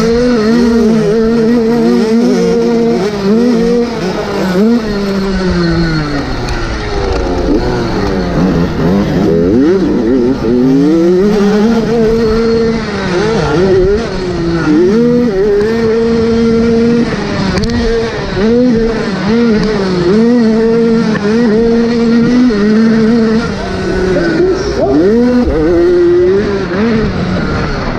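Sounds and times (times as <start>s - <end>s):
motocross bike engines revving: 0.0s - 27.9s.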